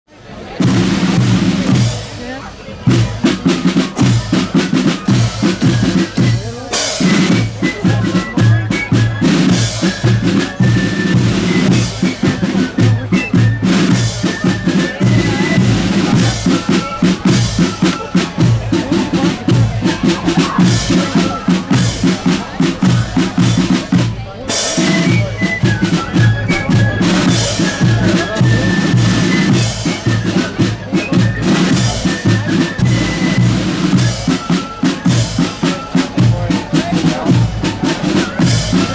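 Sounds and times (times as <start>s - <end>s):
snare drums rattling: 0.6s - 38.9s.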